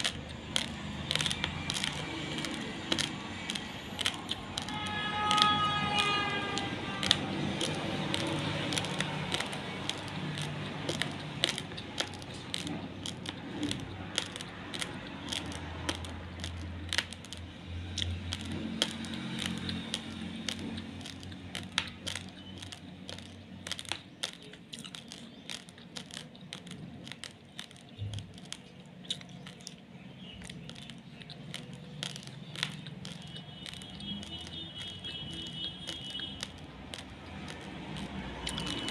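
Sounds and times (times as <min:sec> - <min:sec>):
rice grains crunching: 0:00.0 - 0:38.9.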